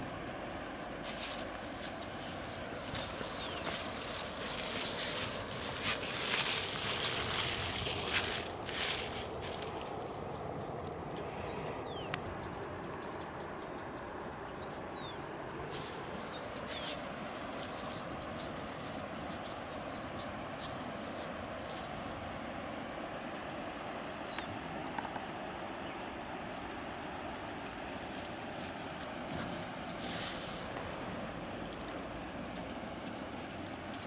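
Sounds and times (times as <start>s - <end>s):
steady background hiss: 0.0s - 34.0s
small birds chirping: 0.4s - 27.8s.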